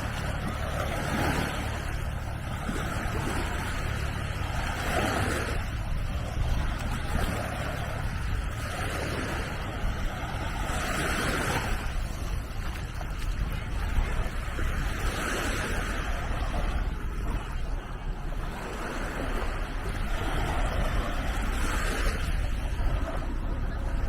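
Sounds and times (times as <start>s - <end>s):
steady low rumble: 0.0s - 24.0s
waves washing onto sand: 0.0s - 24.0s.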